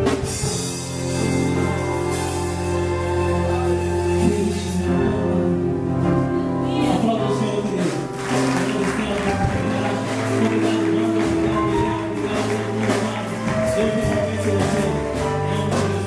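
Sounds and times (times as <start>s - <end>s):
gospel worship band playing: 0.0s - 16.0s.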